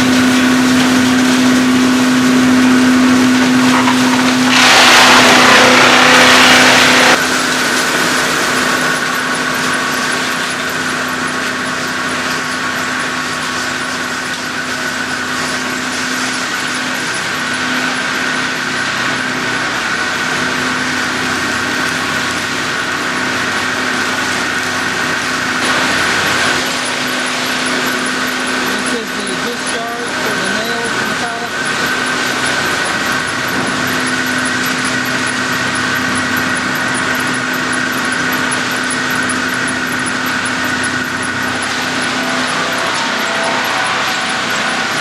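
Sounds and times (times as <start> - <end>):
grinder machine humming and whining: 0.0 - 45.0.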